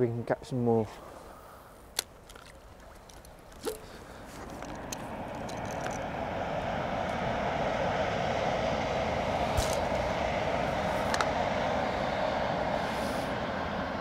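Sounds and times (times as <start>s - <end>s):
distant engine noise: 0.0s - 14.0s.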